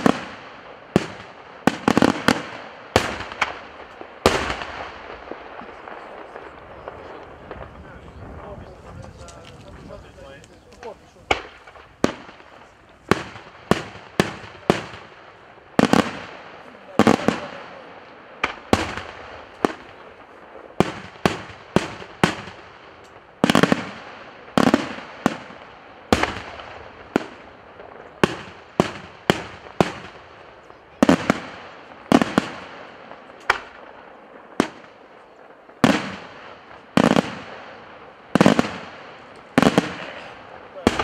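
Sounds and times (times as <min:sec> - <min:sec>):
fireworks bursting with echo: 0:00.0 - 0:41.0.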